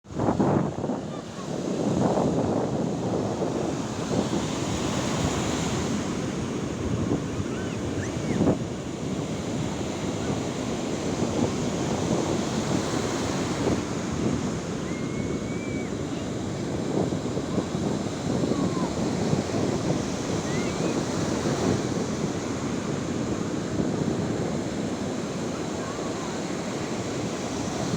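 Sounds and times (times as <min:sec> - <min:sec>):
wind buffeting microphone: 0:00.0 - 0:27.9
sea waves breaking on shore: 0:00.1 - 0:27.9.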